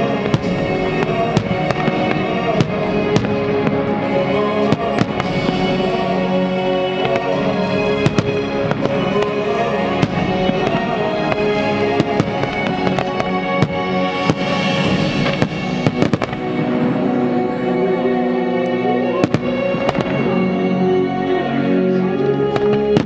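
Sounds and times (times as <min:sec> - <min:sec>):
fireworks bursting: 0:00.0 - 0:17.2, 0:19.2 - 0:20.5
music soundtrack: 0:00.0 - 0:23.0.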